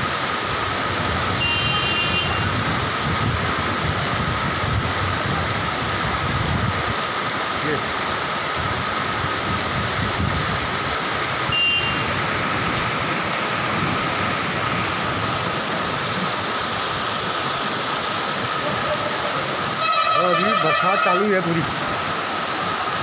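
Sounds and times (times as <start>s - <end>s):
floodwater running over road: 0.0s - 23.0s
heavy rain: 0.0s - 23.0s.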